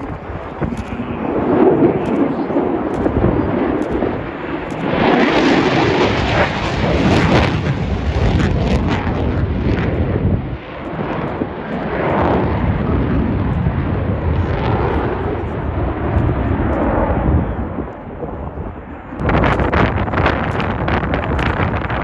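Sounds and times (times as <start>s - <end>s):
loud jet engine roar: 0.0s - 22.0s.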